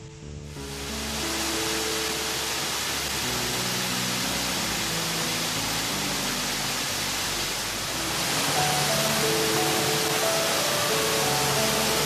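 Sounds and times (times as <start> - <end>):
slow background music: 0.0 - 12.0
waterfall rushing: 0.4 - 12.0.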